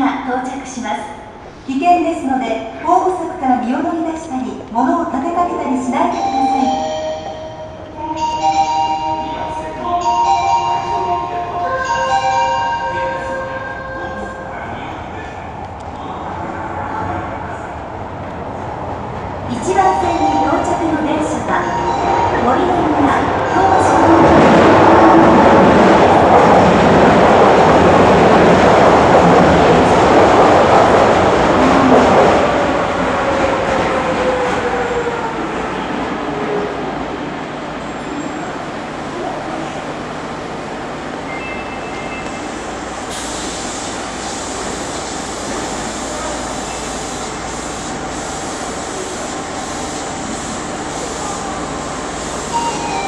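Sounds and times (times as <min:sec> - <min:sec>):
subway train rushing in: 0:00.0 - 0:53.0.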